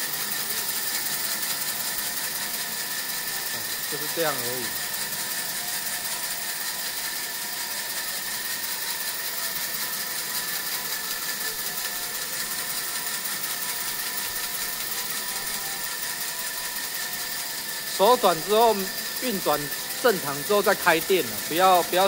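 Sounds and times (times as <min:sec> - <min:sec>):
bandsaw running idle: 0:00.0 - 0:22.0.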